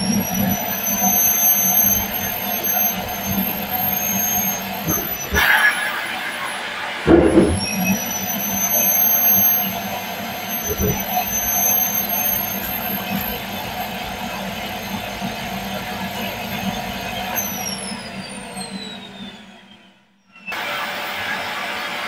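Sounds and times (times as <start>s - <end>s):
vacuum cleaner whine: 0.0s - 22.0s.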